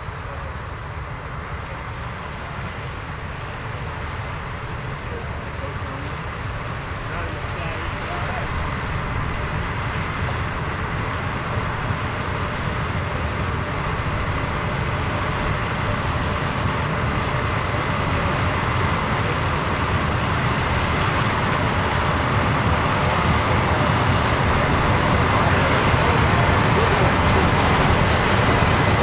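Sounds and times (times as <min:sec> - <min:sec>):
combine harvester droning: 0:00.0 - 0:29.0.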